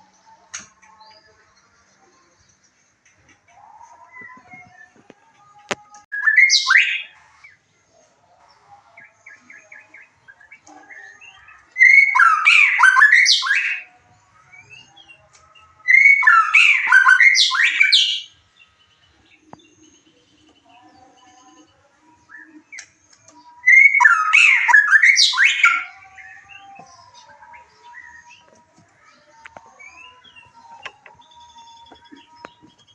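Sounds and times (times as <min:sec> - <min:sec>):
songbird singing rich varied song: 0:00.0 - 0:07.6, 0:08.6 - 0:32.9.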